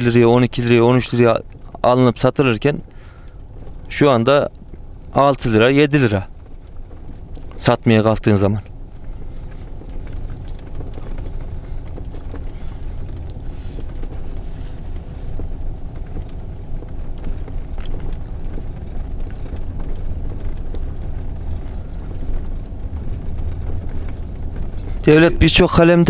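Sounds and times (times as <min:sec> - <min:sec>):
engine and tyre rumble: 0:00.0 - 0:26.0
small rattles and clicks: 0:00.0 - 0:26.0.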